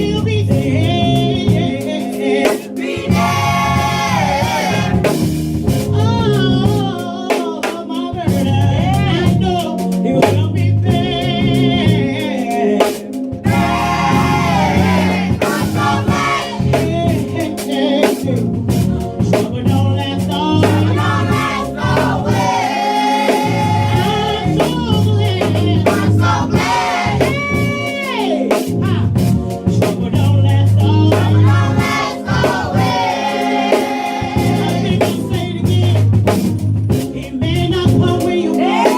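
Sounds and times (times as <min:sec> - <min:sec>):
people singing: 0:00.0 - 0:29.0, 0:29.7 - 0:36.2, 0:37.2 - 0:38.9
band with bass and drums: 0:00.0 - 0:38.9.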